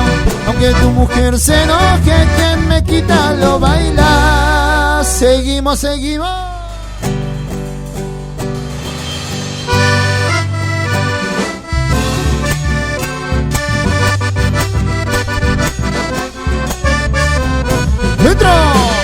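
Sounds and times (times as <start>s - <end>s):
accordion folk dance melody: 0.0s - 19.0s.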